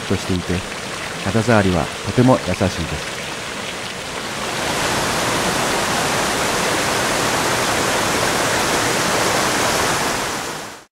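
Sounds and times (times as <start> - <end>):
falling water rushing: 0.0 - 10.9.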